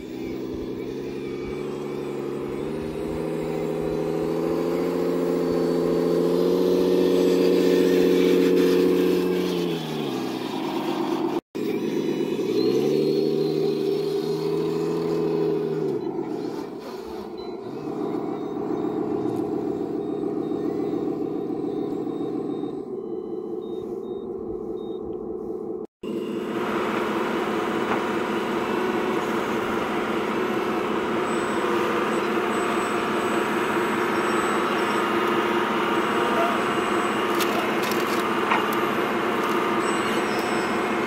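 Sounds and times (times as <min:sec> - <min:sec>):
toy truck engine drone: 0:00.0 - 0:41.0.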